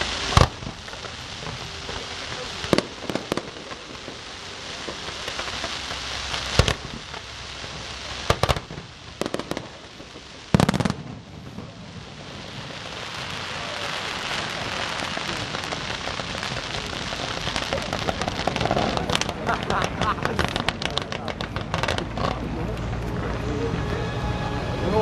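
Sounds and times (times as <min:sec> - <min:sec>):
firework shells bursting: 0:00.0 - 0:23.3
fireworks crackle: 0:00.0 - 0:25.0.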